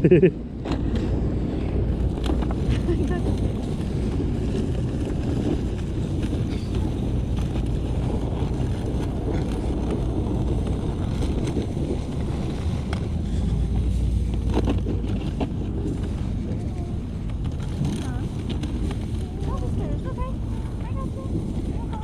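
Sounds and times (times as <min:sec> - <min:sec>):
wind on microphone: 0:00.0 - 0:22.0
truck driving over snow: 0:00.1 - 0:22.0.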